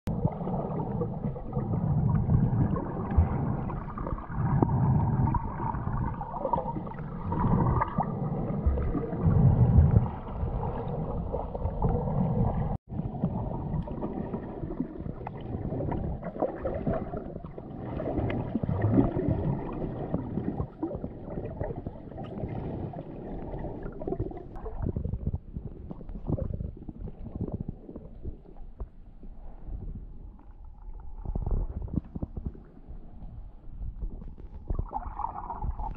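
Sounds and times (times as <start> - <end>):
muffled underwater water rushing: 0.1 - 35.9.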